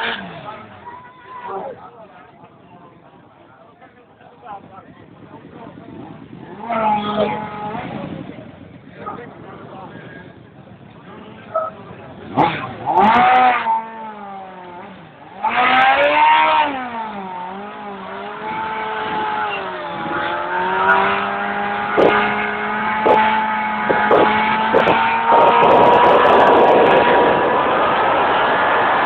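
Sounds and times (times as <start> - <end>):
motorcycle engine revving: 5.0 - 29.0.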